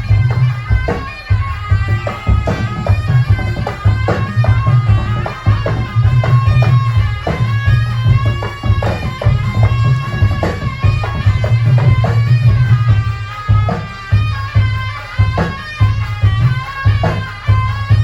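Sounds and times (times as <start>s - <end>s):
hand drum strokes: 0.0s - 18.0s
heavy low beat: 0.0s - 18.0s
nasal reed-pipe melody: 0.0s - 18.0s.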